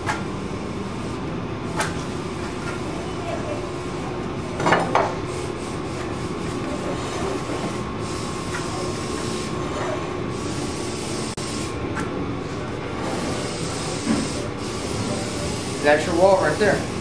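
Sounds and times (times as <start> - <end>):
workshop machinery noise: 0.0 - 17.0.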